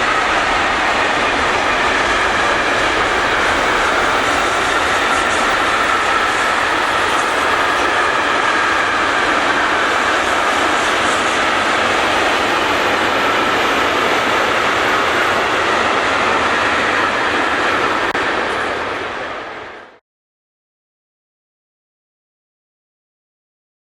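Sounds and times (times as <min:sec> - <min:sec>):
train wheels rolling on rails: 0:00.0 - 0:20.0.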